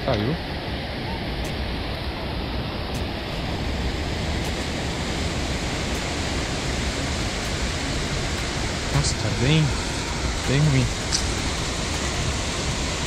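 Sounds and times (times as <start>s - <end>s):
surf rushing: 0.0s - 13.0s.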